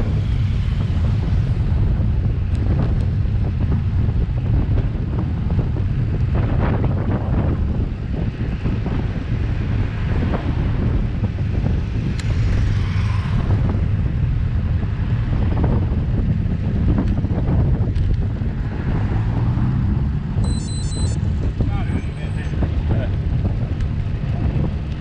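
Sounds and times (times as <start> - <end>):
road and tyre noise: 0.0 - 25.0
wind buffeting microphone: 0.0 - 25.0.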